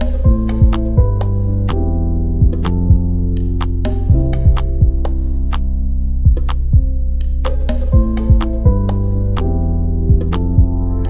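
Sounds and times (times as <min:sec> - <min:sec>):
synthesizer chords: 0:00.0 - 0:11.0.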